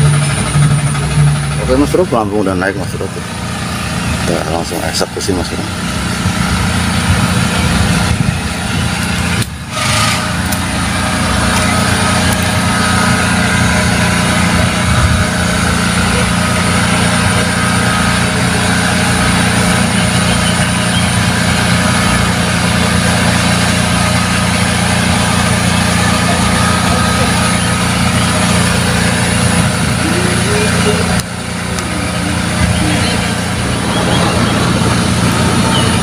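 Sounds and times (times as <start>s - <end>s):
water pump humming: 0.0s - 36.0s.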